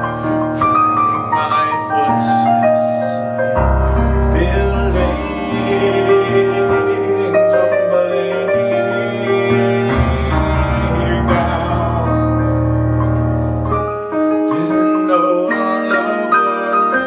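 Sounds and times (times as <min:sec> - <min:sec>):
keyboard playing slow pop song: 0:00.0 - 0:17.0.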